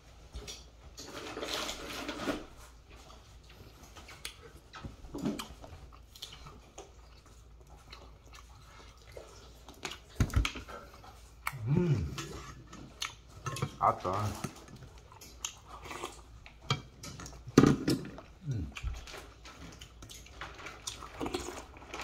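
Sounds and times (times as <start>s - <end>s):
chewing dried meat: 0.4s - 22.0s.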